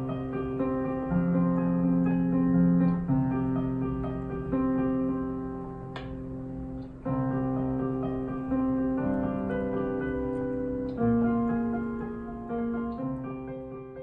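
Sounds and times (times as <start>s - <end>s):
digital piano chords: 0.0s - 14.0s.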